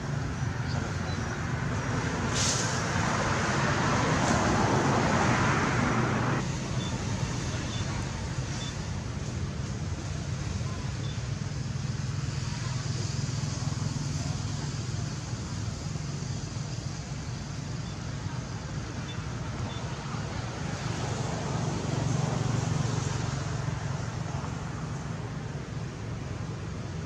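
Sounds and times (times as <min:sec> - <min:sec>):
outdoor background rumble and hiss: 0:00.0 - 0:27.0.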